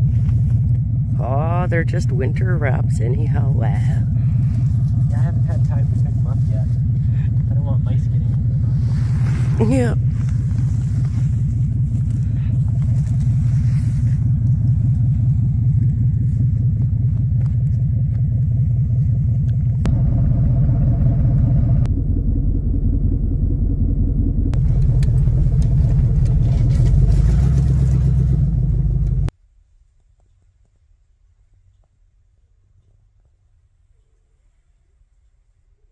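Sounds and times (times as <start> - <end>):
vehicle engine idling: 0.0 - 29.3.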